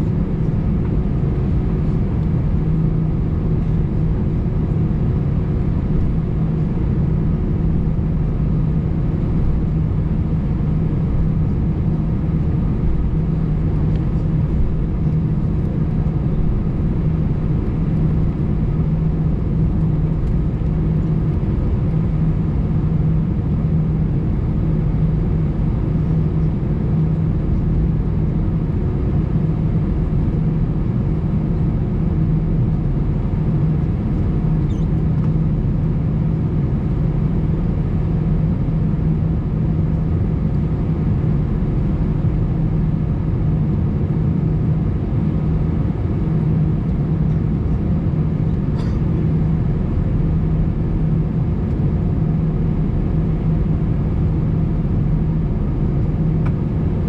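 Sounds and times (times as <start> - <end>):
airplane cabin drone: 0.0 - 57.0
steady hum: 0.0 - 57.0.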